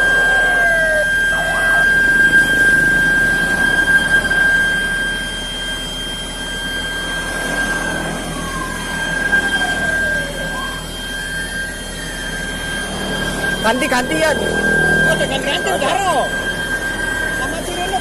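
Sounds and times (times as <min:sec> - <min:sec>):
fire engine sirens: 0:00.0 - 0:18.0.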